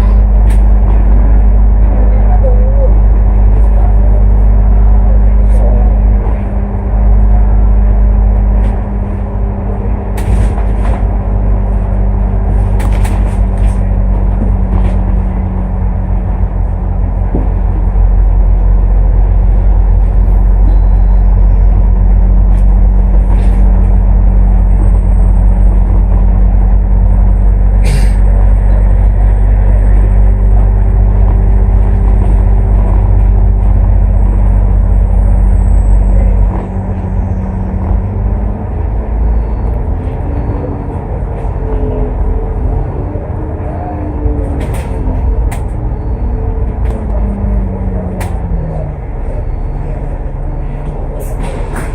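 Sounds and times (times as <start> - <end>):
bus engine droning: 0.0 - 51.9.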